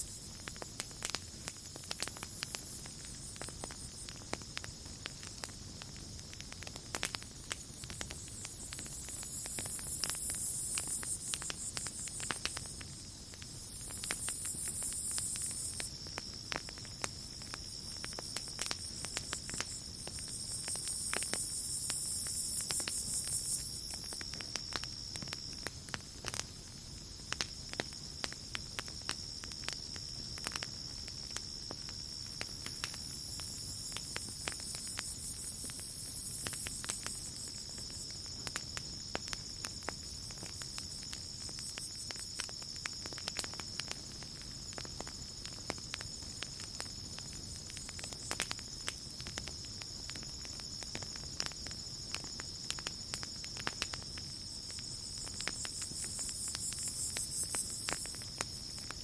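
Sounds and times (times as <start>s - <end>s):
campfire crackling and popping: 0.0s - 59.0s
crickets chirping: 0.0s - 59.0s.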